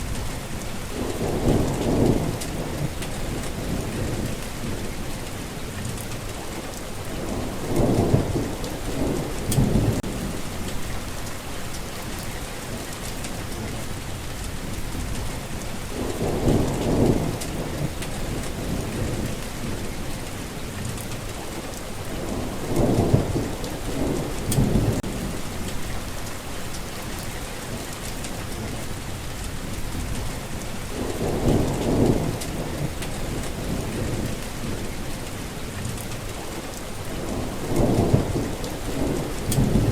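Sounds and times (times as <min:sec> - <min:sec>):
thunder rumbling: 0:00.0 - 0:06.1, 0:07.0 - 0:13.8, 0:14.6 - 0:20.9, 0:22.0 - 0:28.8, 0:29.6 - 0:36.3, 0:37.0 - 0:39.9
rain hissing: 0:00.0 - 0:39.9.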